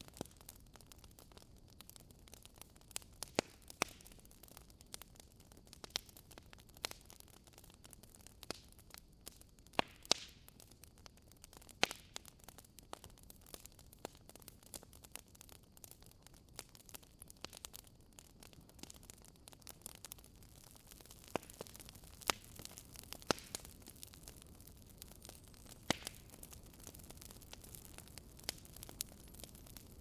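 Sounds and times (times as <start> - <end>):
faint steady hiss: 0.0 - 30.0
logs crackling and popping: 0.0 - 30.0.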